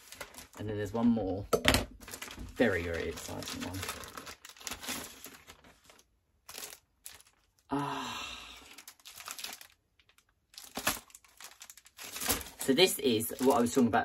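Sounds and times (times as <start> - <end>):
packaging crinkling and tearing: 0.0 - 1.2, 1.9 - 7.7, 8.6 - 14.0.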